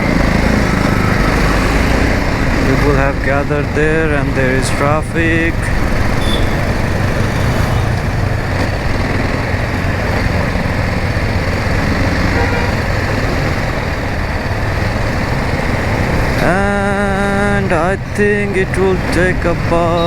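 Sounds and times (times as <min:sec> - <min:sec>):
motorcycle engine running: 0:00.0 - 0:20.0
road traffic: 0:00.0 - 0:20.0.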